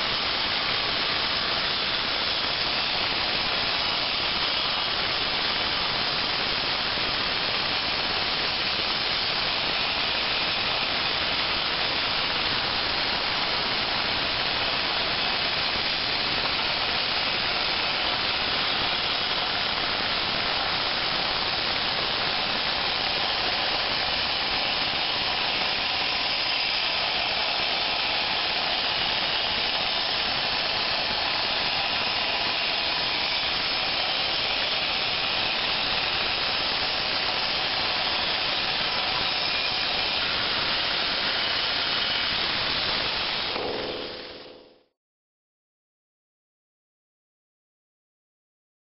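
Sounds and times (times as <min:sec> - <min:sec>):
plasma cutter hissing: 0:00.1 - 0:44.7.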